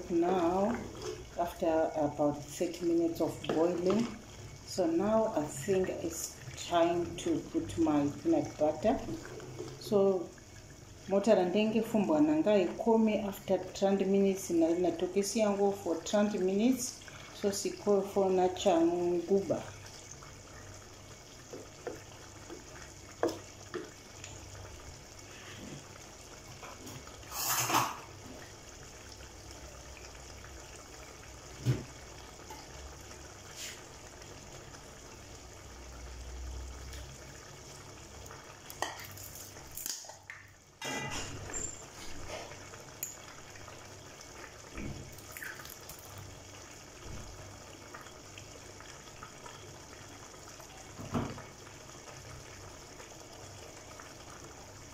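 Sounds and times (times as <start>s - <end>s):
stew boiling and bubbling: 0.0s - 54.9s.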